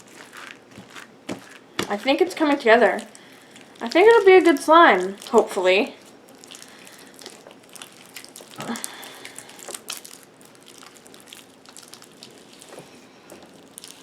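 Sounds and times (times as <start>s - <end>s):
slime squishing: 0.0s - 14.0s.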